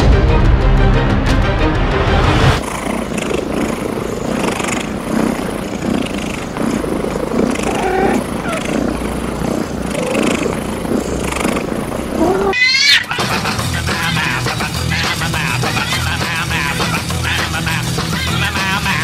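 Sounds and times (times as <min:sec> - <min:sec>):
cats purring: 0:02.6 - 0:19.0.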